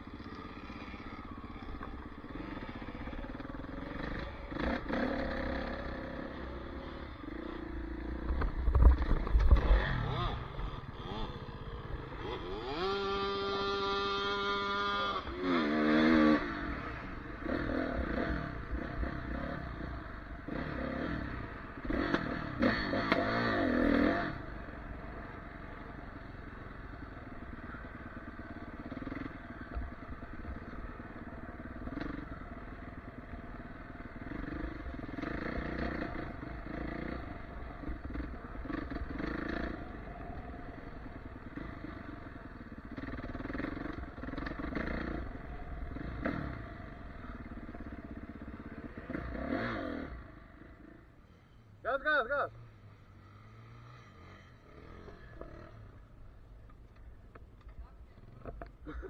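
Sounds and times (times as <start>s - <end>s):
dirt bike engine revving: 0.0s - 56.4s.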